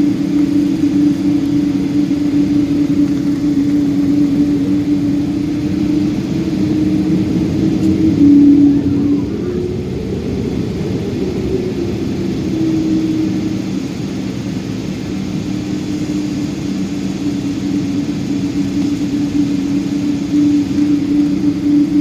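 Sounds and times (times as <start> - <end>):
jet engines humming in cabin: 0.0 - 22.0.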